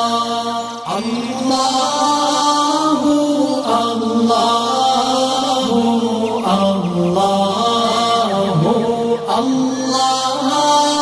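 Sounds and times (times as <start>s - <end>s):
voice chanting a long sung note: 0.0s - 11.0s.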